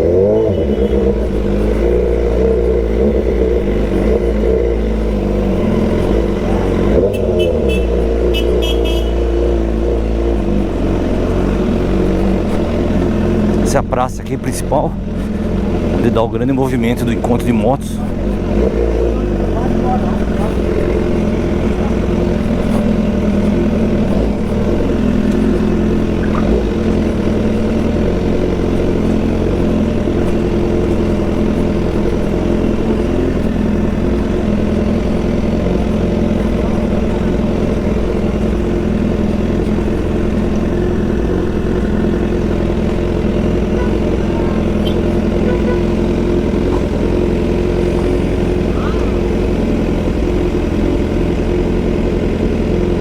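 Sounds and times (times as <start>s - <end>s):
motorcycle engine running steadily: 0.0s - 53.0s.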